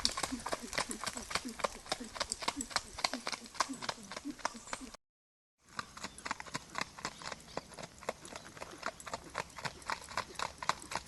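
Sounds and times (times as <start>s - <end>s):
horse hooves clip-clopping: 0.0s - 5.0s, 5.6s - 11.0s.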